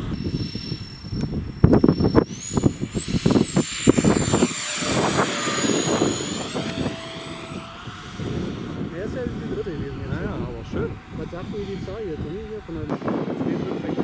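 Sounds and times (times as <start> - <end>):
electric ducted fan whining: 0.0 - 14.0
wind rumbling on microphone: 0.0 - 14.0.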